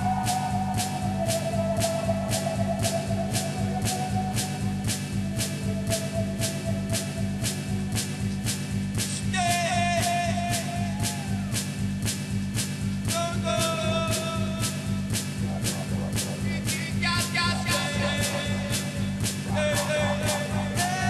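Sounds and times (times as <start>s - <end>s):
electronic band music: 0.0s - 11.8s, 13.2s - 21.0s.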